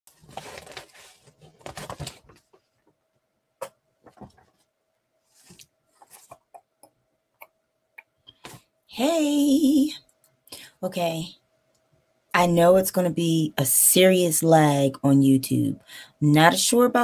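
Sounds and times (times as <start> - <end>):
faint steady hum: 0.2 - 17.0.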